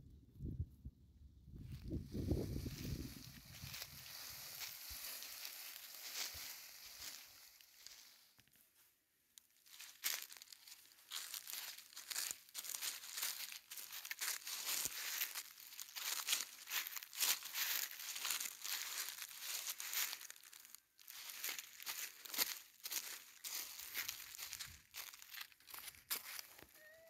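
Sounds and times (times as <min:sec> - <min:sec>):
dry leaves crunching: 0:02.1 - 0:08.4, 0:09.6 - 0:27.0.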